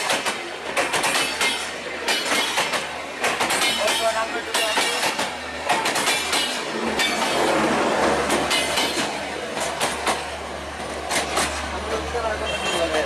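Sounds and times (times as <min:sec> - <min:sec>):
wheels clattering over rail joints: 0:00.0 - 0:12.4
train coaches rumbling past: 0:00.0 - 0:13.0.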